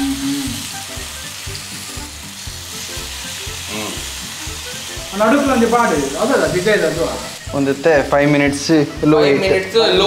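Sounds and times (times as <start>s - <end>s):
chicken sizzling in oil: 0.0s - 9.9s.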